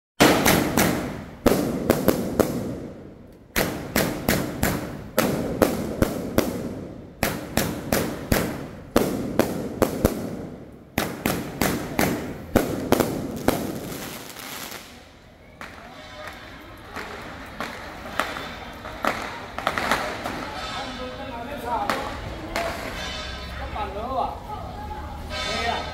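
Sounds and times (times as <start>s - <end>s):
fireworks banging and crackling: 0.2s - 23.4s.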